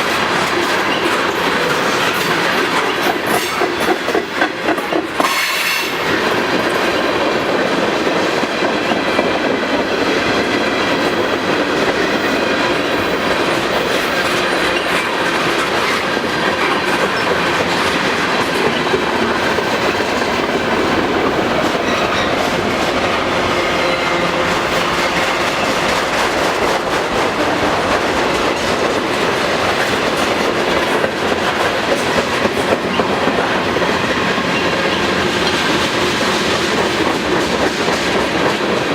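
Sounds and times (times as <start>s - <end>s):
freight train rolling past: 0.0s - 38.9s
wheels clacking over rail joints: 0.0s - 38.9s.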